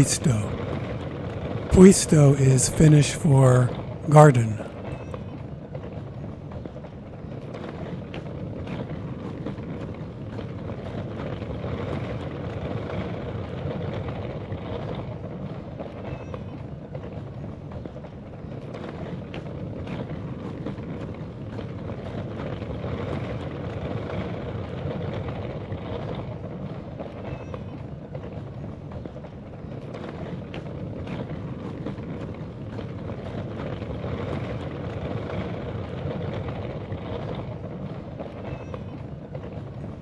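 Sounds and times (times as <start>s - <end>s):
suitcase wheels rumbling on asphalt: 0.4s - 1.7s, 4.7s - 40.0s.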